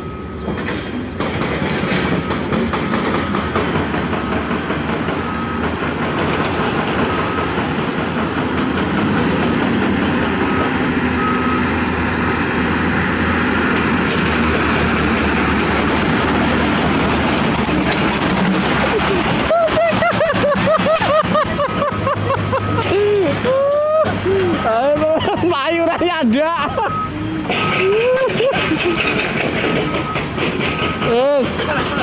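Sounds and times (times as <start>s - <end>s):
diesel truck engine: 0.0s - 32.0s.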